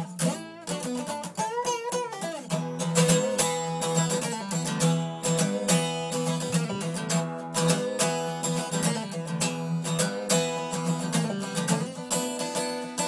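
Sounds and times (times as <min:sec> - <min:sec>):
acoustic guitar blues riff: 0:00.0 - 0:13.0.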